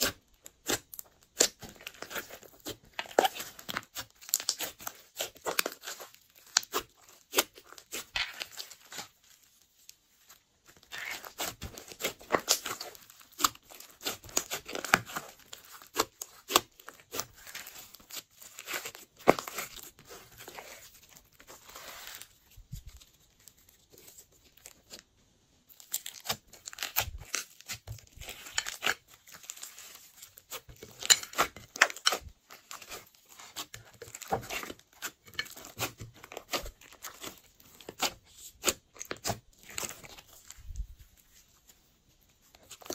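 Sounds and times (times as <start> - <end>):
slime crackling and popping: 0.0 - 9.2, 10.8 - 22.3, 25.7 - 40.8.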